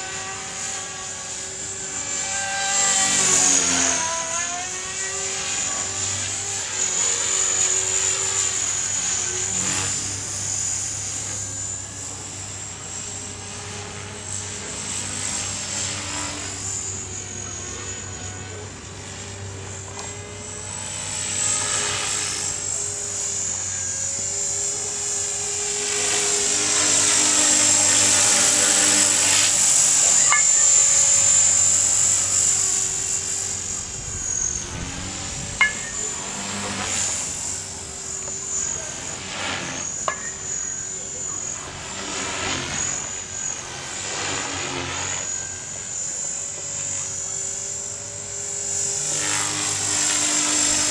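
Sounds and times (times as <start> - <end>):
rc helicopter motor whine: 0.0 - 50.9.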